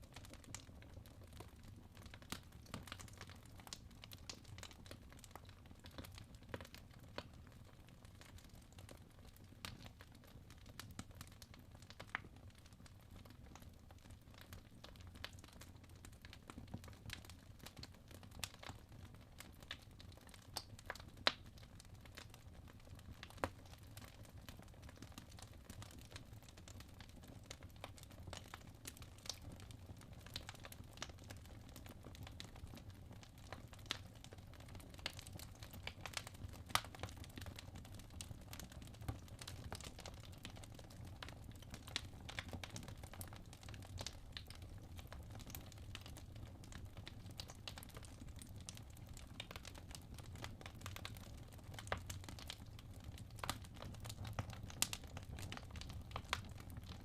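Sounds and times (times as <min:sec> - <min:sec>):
low rumble of burning logs: 0:00.0 - 0:57.0
wood fire crackling and popping: 0:00.0 - 0:57.0.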